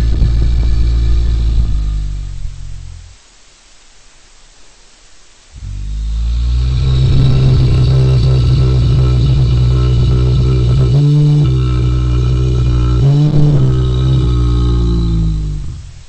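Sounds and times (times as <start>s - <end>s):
deep horror drone: 0.0s - 3.2s, 5.6s - 16.0s
faint hiss: 0.0s - 16.0s.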